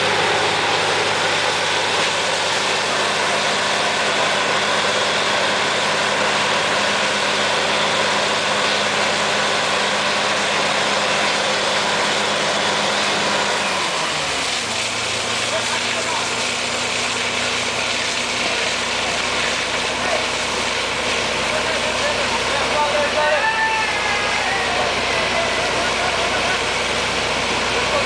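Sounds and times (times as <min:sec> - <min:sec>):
compressed air and water rushing: 0:00.0 - 0:28.0
diesel engine droning: 0:00.0 - 0:28.0.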